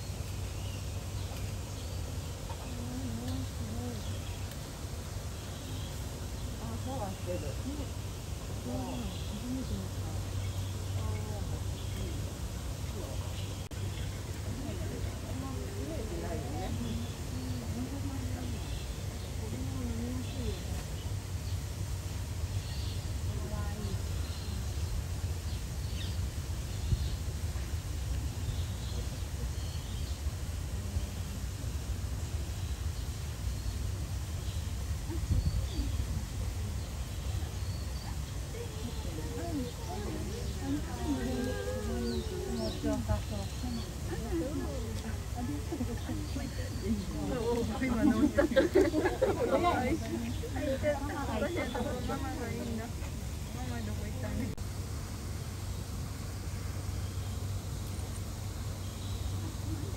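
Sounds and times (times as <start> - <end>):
faint distant voices: 0.0 - 59.9.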